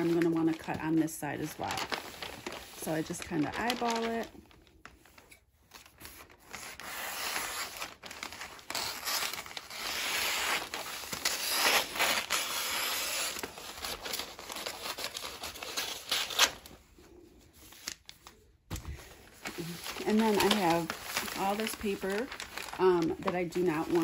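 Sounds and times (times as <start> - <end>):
paper crinkling and rustling: 0.0 - 24.0.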